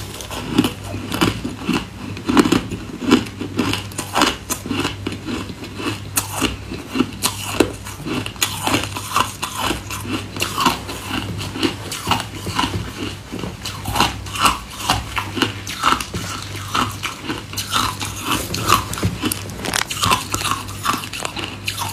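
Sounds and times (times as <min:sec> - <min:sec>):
crunching ice in the mouth: 0:00.0 - 0:21.9.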